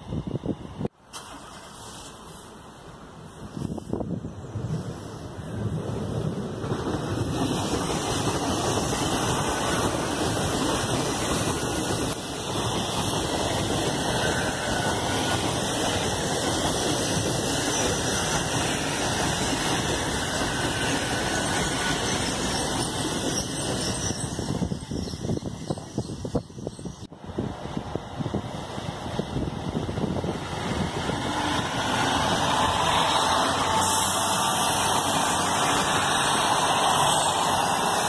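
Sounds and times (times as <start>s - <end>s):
train passing at speed: 0.0s - 38.0s.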